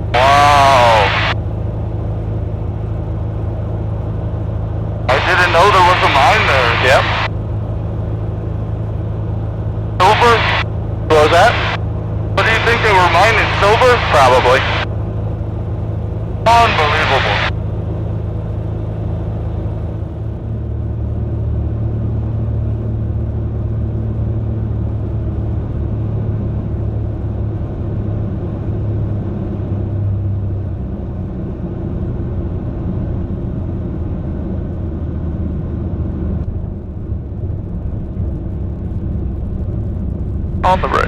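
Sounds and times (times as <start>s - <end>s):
aircraft engine and propeller droning: 0.0s - 41.0s.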